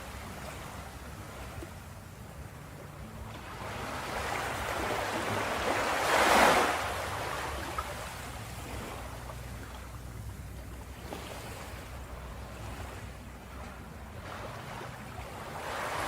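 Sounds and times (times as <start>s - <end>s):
ocean waves crashing on beach: 0.0s - 16.0s.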